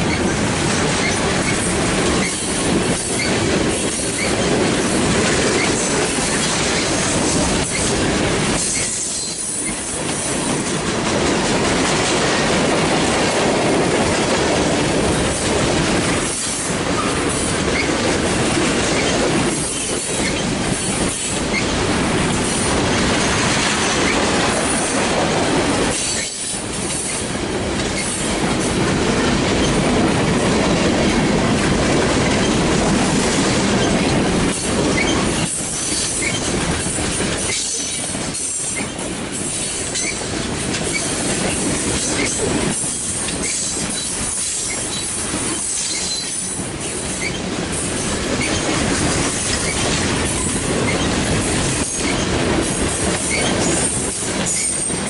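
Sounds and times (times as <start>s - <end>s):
freight train wheels clattering on rails: 0.0s - 55.0s.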